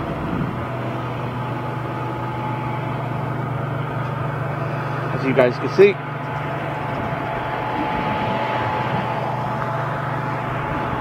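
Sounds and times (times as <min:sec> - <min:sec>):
faint high whine: 0:00.0 - 0:11.0
low hum: 0:00.0 - 0:11.0
road traffic rumble and hiss: 0:00.0 - 0:11.0.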